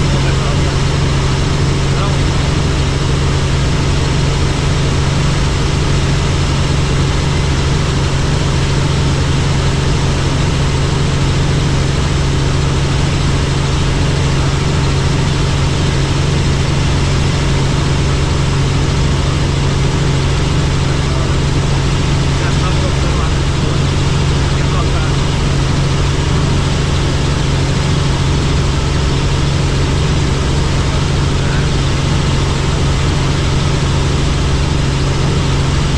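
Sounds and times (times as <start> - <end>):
helicopter drone: 0.0 - 35.9.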